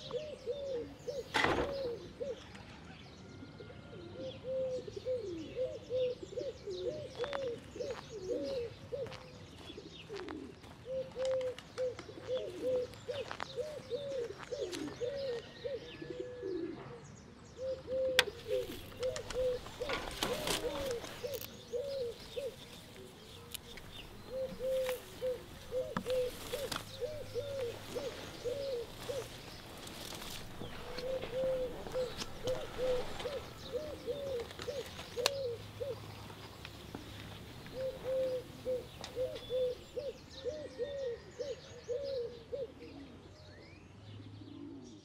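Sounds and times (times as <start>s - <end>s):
pigeon cooing: 0.0s - 2.5s, 3.6s - 17.0s, 17.6s - 43.4s, 44.4s - 45.0s.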